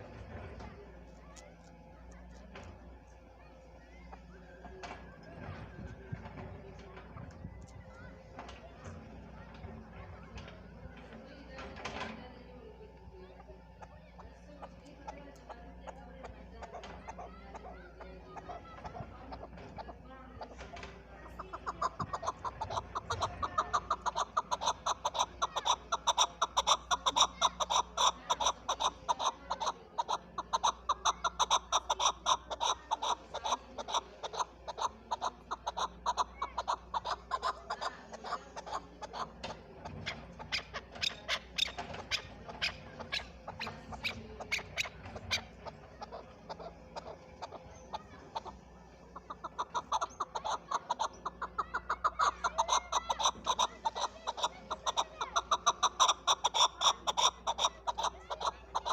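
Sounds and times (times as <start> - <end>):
partridge clucking calls: 0.0 - 58.9.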